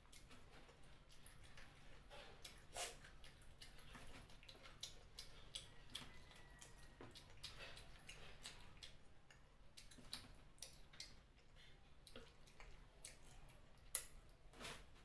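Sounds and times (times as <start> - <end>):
wet chewing and sucking: 0.0 - 15.0.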